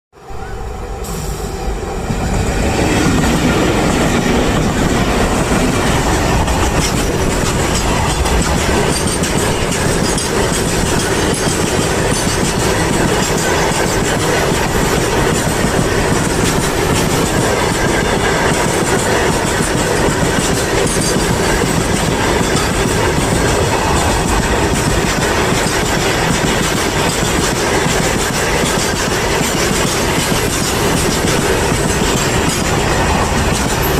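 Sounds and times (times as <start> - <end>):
train wheels clattering on rails: 1.0 - 33.9.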